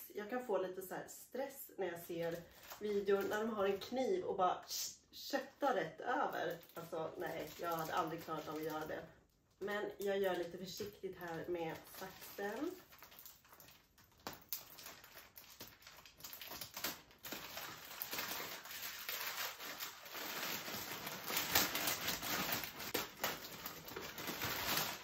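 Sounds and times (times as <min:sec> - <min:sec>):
plastic bag crinkling: 0:02.0 - 0:04.3, 0:05.4 - 0:25.0.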